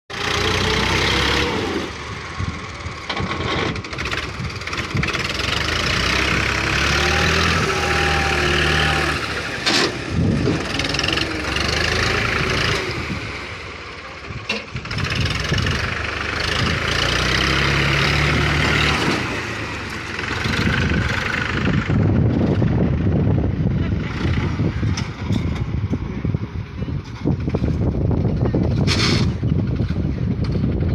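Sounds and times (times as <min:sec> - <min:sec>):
tractor diesel engine running: 0:00.1 - 0:30.9.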